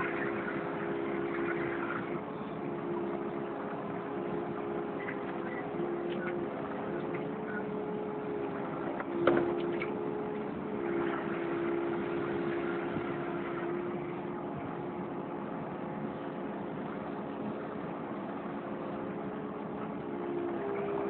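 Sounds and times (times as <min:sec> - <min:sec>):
excavator engine hum and whine: 0:00.0 - 0:21.0.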